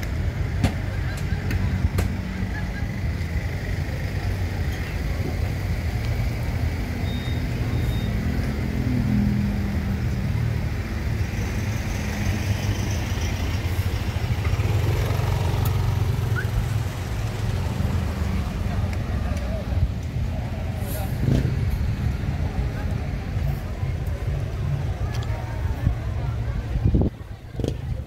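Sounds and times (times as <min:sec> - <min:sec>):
car engines rumbling: 0:00.0 - 0:28.0
road traffic: 0:00.0 - 0:28.0.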